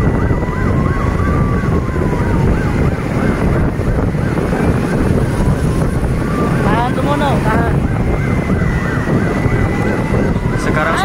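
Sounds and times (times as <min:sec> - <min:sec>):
electronic siren wailing: 0:00.0 - 0:11.0
vehicle noise: 0:00.0 - 0:11.0
wind on microphone: 0:00.0 - 0:11.0.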